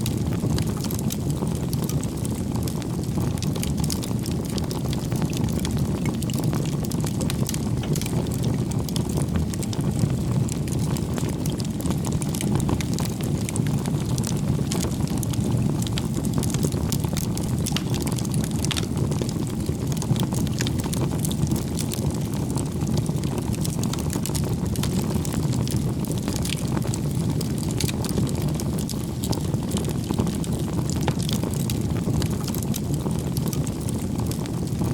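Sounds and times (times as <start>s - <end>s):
low rush of flames: 0.0s - 34.9s
wood crackles and pops: 0.0s - 34.9s.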